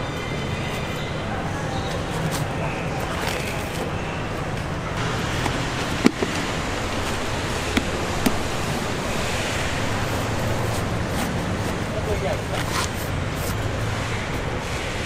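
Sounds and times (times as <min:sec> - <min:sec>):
busy market noise: 0:00.0 - 0:15.0.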